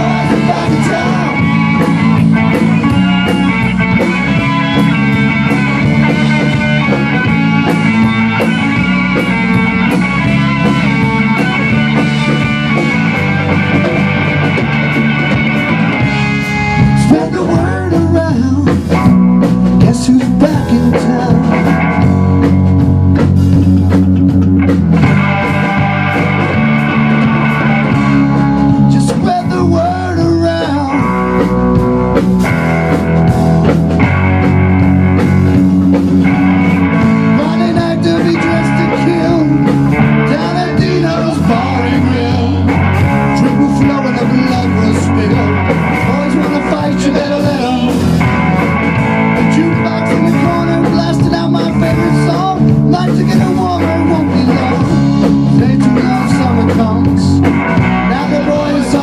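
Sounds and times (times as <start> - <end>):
drum kit: 0.0 - 59.0
electric bass: 0.0 - 59.0
electric guitar: 0.0 - 59.0.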